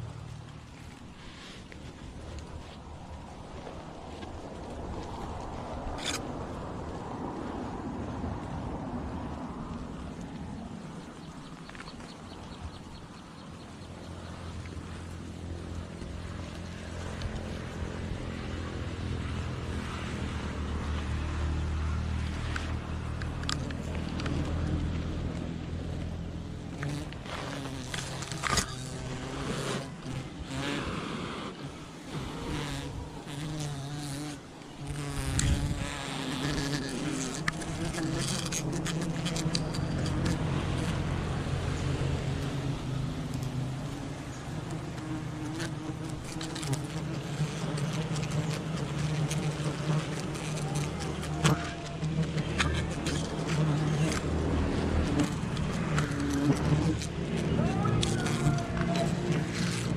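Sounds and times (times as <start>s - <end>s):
honeybee colony buzzing: 8.2s - 59.9s.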